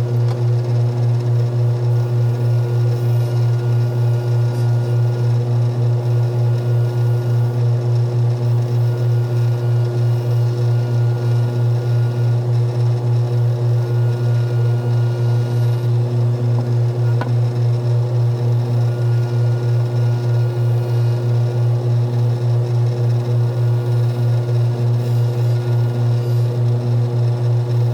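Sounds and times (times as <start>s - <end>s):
low pulsing machine hum: 0.0s - 27.9s.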